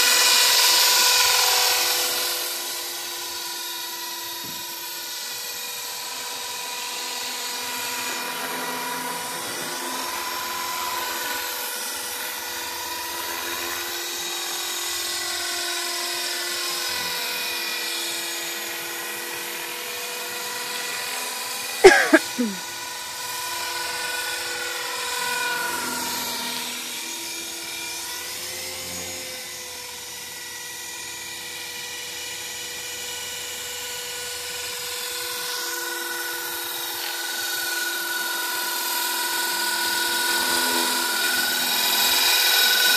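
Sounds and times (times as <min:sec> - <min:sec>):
rc helicopter motor whine: 0:00.0 - 0:42.9.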